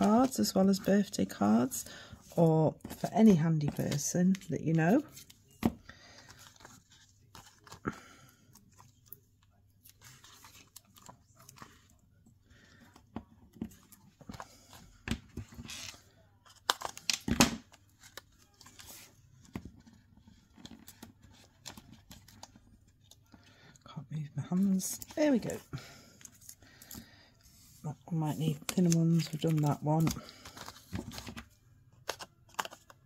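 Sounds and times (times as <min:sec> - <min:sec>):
cardstock rustling and crinkling: 0:00.0 - 0:23.6, 0:24.2 - 0:33.0.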